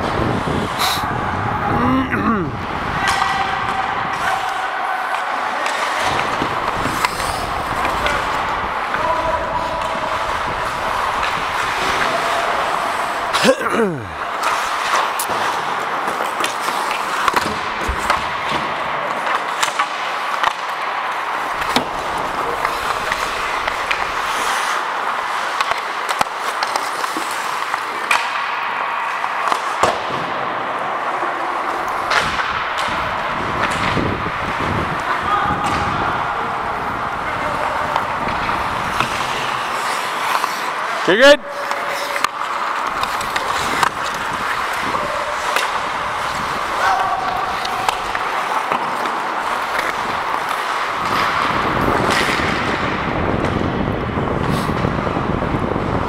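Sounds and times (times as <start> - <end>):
hockey sticks and puck clacking: 0.0 - 56.0
skates scraping ice: 0.0 - 56.0.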